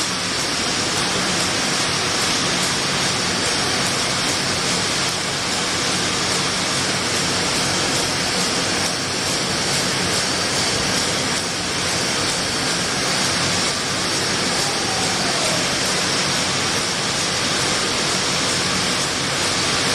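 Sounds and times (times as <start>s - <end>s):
production machinery running: 0.0s - 19.9s.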